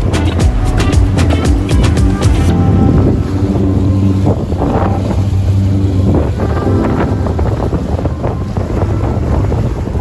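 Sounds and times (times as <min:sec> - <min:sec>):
jet ski running: 0:00.0 - 0:10.0
wind buffeting microphone: 0:00.0 - 0:10.0.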